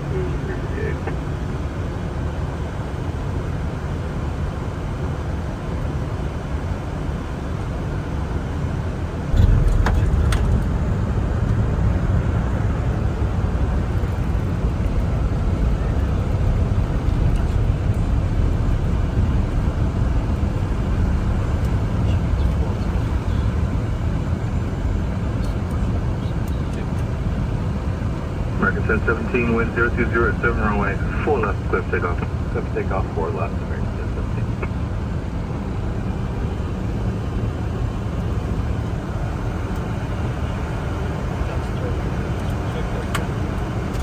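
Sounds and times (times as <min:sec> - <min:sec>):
cockpit engine rumble: 0:00.0 - 0:44.0.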